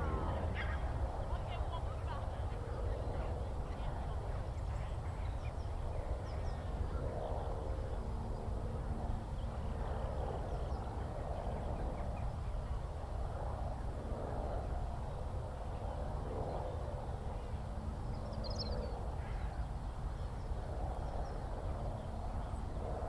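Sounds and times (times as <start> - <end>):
wind on the microphone: 0.0 - 23.0.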